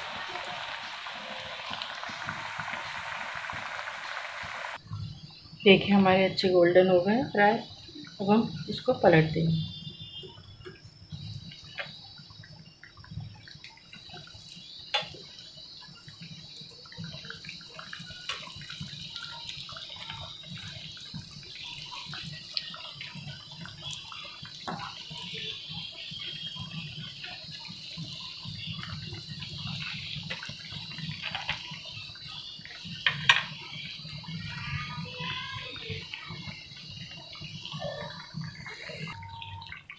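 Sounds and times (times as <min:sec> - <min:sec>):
food deep-frying in hot oil: 0:00.0 - 0:39.9.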